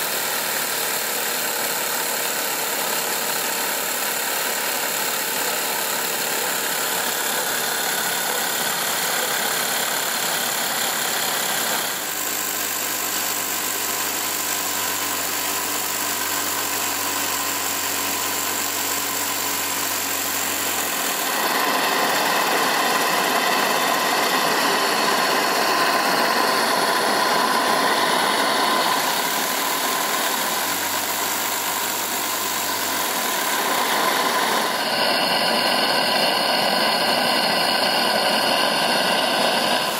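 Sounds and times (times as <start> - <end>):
steam engine running fast: 0.0 - 39.9.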